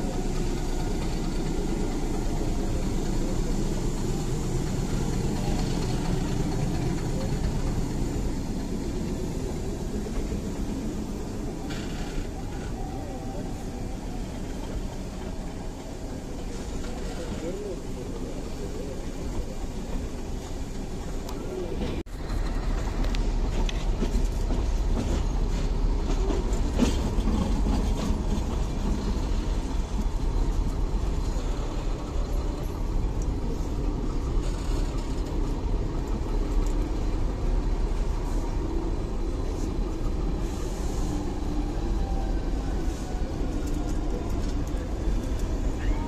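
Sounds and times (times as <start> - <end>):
train carriages rumbling on track: 0.0 - 46.0.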